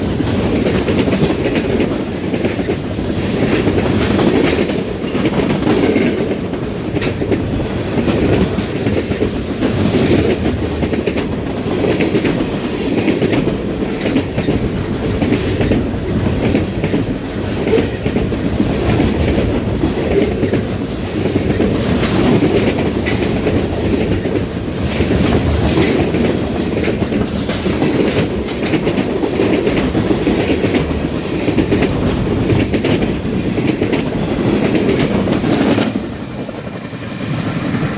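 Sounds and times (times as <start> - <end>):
freight train wheels clacking: 0.0 - 37.9.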